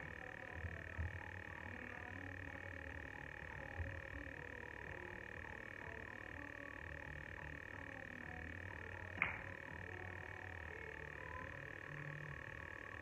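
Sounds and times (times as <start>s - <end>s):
high-pitched whine: 0.0s - 13.0s
low hum: 0.0s - 13.0s.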